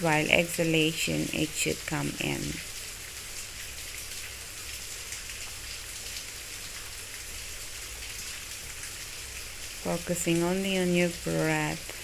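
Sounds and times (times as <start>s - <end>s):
rain-like hiss: 0.0s - 12.0s.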